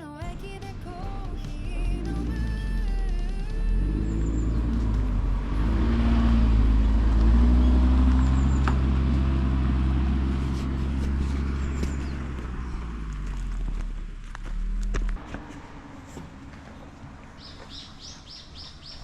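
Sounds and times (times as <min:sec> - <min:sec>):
van engine and road rumble: 0:00.2 - 0:19.0.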